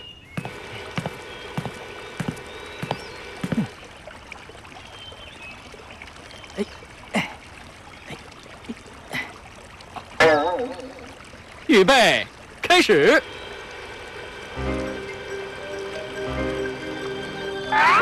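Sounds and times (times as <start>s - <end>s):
water trickling: 0.2s - 17.7s.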